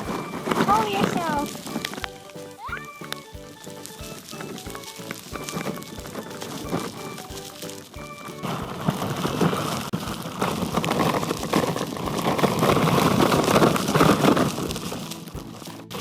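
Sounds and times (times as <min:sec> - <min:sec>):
deep snow crunching: 0:00.0 - 0:16.0.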